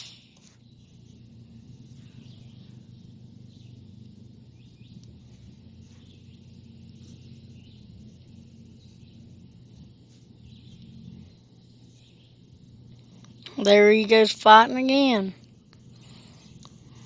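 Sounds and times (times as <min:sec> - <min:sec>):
small bird chirps: 0:00.0 - 0:17.0
steady low hum: 0:00.0 - 0:17.0.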